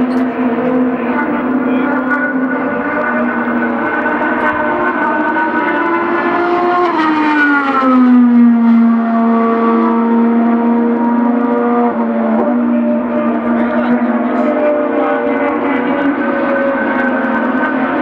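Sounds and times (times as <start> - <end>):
racing engine running hard: 0.0 - 18.0.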